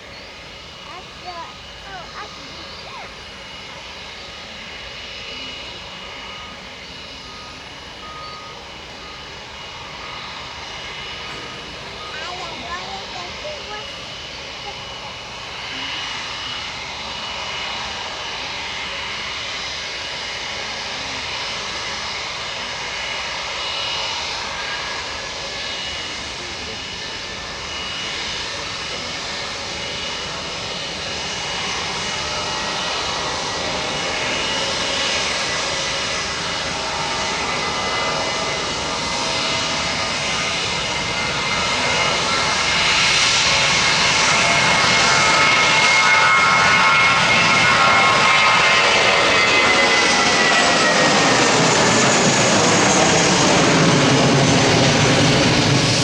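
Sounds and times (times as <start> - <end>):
airplane engines passing: 0.0 - 56.0.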